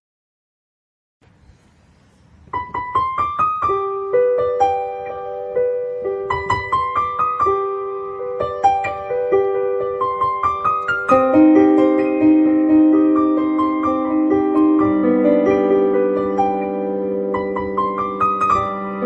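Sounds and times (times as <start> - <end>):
gentle piano melody: 1.5 - 19.0.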